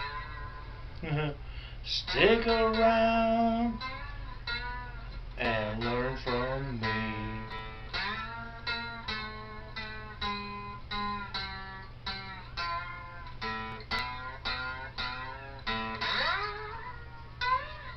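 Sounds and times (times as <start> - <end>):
plucked guitar notes: 0.0 - 17.9.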